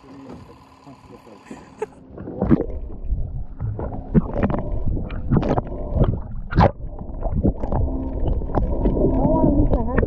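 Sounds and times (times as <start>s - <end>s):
water swishes and bubbling: 0.0s - 10.0s
underwater rushing and gurgling: 1.4s - 10.0s.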